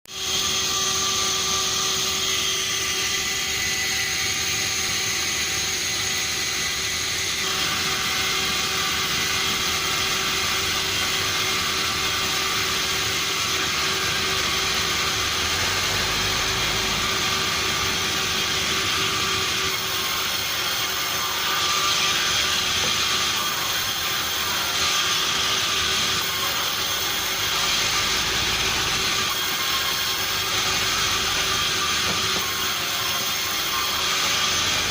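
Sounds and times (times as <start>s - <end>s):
high mechanical whine: 0.1s - 34.9s
sawmill machinery drone: 0.1s - 34.9s.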